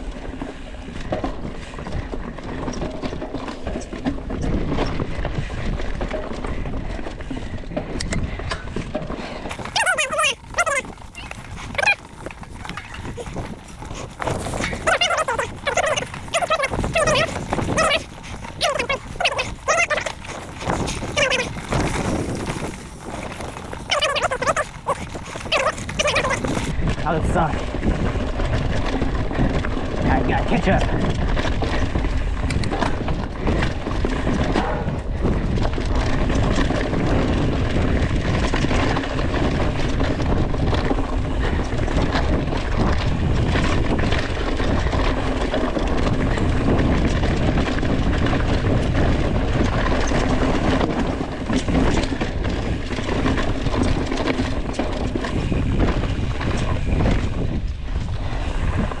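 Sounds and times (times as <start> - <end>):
bike knocks and rattles: 0.0 - 59.0
bike tyres rumbling on trail: 0.0 - 59.0.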